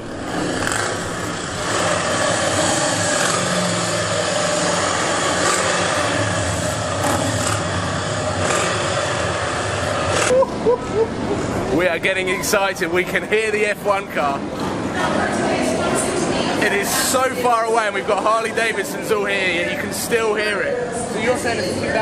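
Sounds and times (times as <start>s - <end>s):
engines running: 0.0s - 21.1s.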